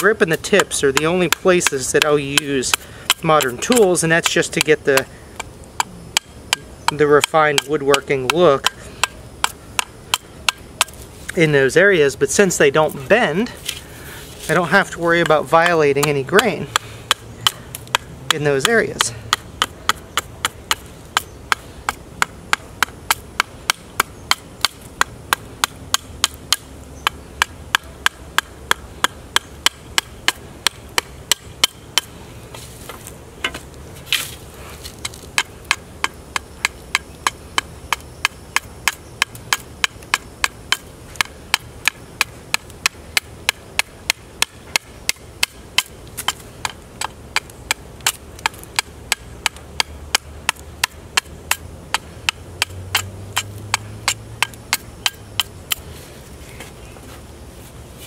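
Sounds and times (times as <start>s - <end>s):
knife chopping wood: 0.0s - 11.0s, 14.4s - 55.9s.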